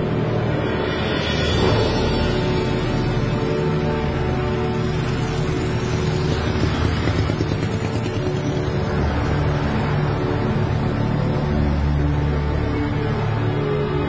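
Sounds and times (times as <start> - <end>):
dark music score: 0.0 - 14.0.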